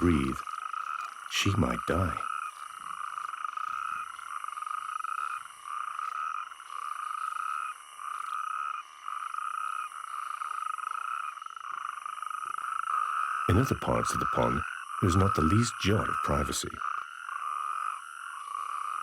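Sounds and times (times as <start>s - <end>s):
toads trilling in chorus: 0.0s - 19.0s.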